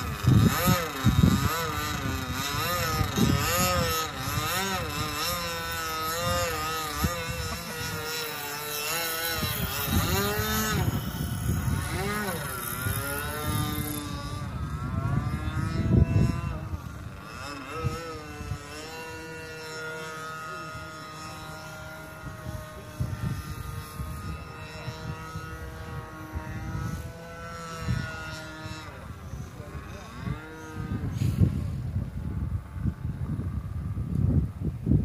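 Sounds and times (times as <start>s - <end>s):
model airplane engine buzzing: 0.0s - 35.0s
wind on microphone: 0.0s - 35.0s.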